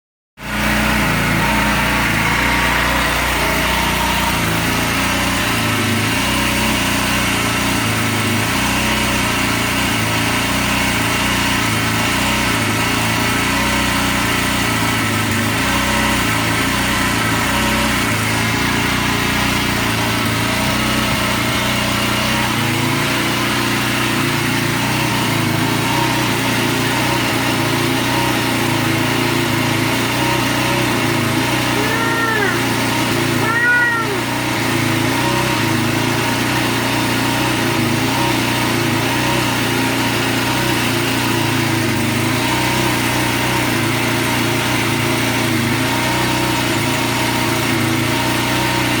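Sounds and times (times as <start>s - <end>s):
pressure washer engine running: 0.4s - 49.0s.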